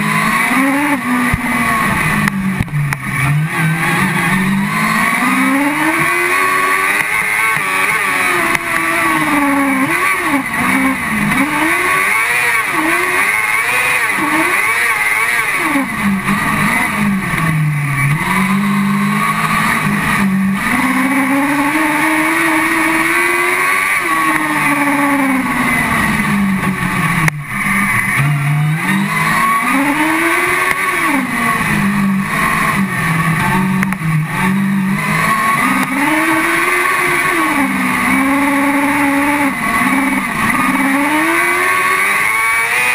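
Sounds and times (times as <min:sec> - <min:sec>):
racing buggy engine revving: 0:00.0 - 0:42.9.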